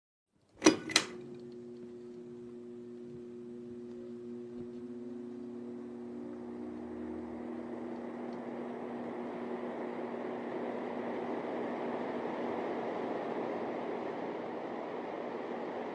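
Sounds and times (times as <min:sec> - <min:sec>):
low steady drone: 0:01.8 - 0:15.9.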